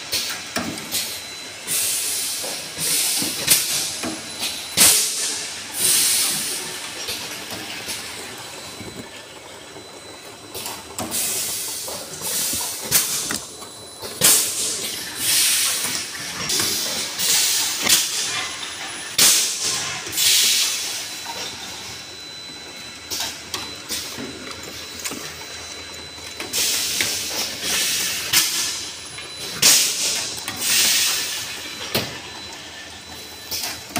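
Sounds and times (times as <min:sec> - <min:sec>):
machine parts and bottles clattering: 0:00.0 - 0:33.9.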